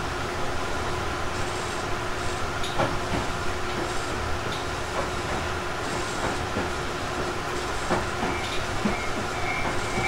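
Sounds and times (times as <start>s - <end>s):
train rolling rumble: 0.0s - 10.0s.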